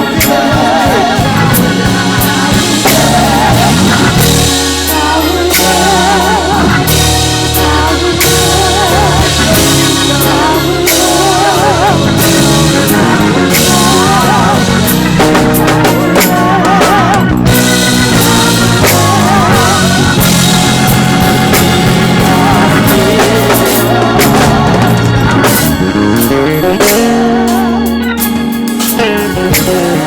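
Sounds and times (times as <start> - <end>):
bass notes: 0.0 - 30.0
gospel band playing: 0.0 - 30.0
person singing with vibrato: 0.0 - 30.0.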